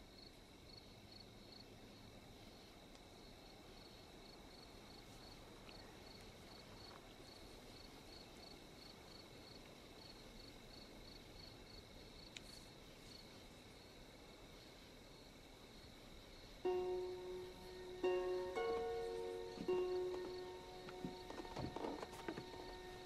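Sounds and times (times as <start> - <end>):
faint cricket chirping: 0.0 - 23.0
low background hiss: 0.0 - 23.0.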